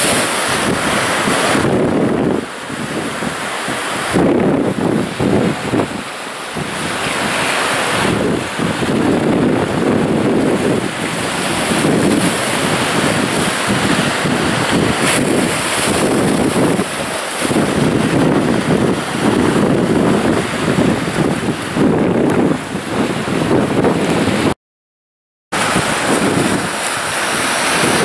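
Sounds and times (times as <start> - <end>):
waves washing over rocks: 0.0 - 24.6, 25.6 - 28.0
wind buffeting microphone: 0.0 - 24.6, 25.6 - 28.0.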